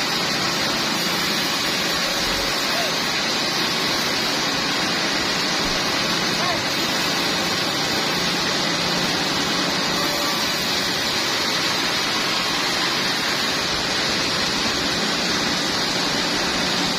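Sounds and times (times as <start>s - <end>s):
sawmill saw cutting wood: 0.0s - 16.9s.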